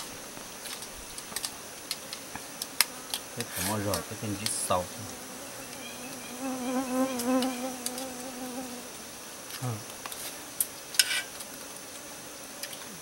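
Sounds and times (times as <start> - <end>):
flying insect buzzing: 0.0 - 13.0.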